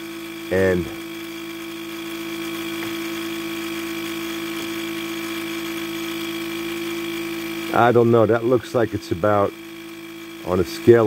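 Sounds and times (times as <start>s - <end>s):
steady electrical buzz: 0.0s - 11.0s.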